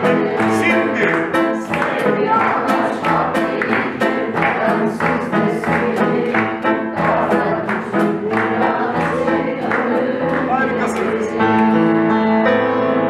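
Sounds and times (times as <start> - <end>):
upright piano accompaniment: 0.0 - 13.0.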